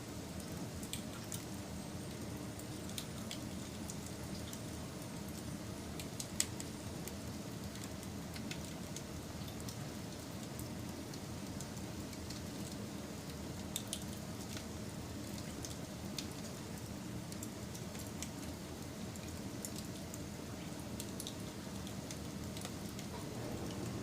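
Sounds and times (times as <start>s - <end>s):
fire crackling and popping: 0.4s - 24.0s.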